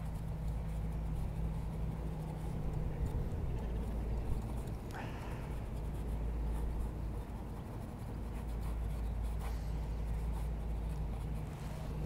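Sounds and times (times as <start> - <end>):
paintbrush scratching on panel: 0.0 - 12.0
steady low rumble: 0.0 - 12.0.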